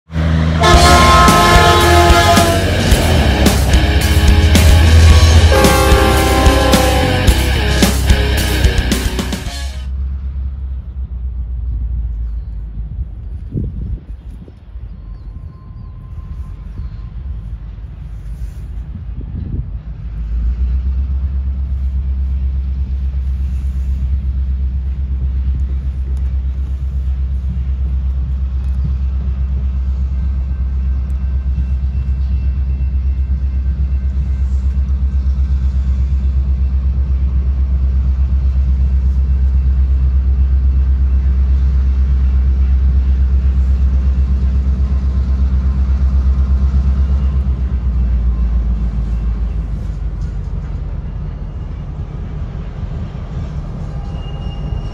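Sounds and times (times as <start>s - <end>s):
diesel locomotive rumbling: 0.0s - 54.9s.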